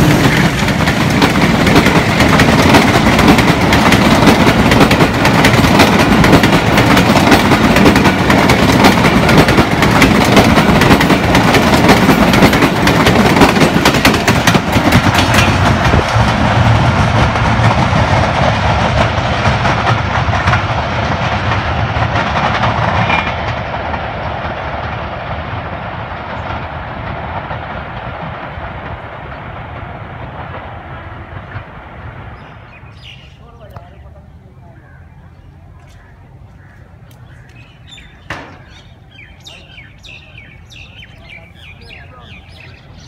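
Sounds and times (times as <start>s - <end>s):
train wheels clicking over rail joints: 0.0s - 32.1s, 37.0s - 43.0s.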